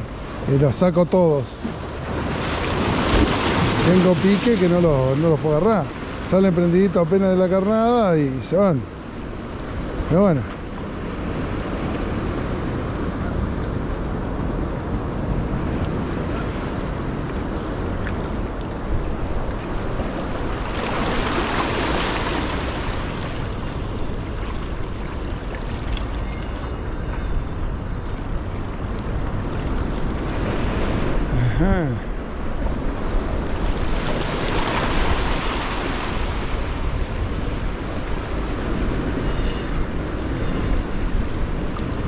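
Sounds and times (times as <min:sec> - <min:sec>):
sea waves washing on shore: 0:00.0 - 0:42.0.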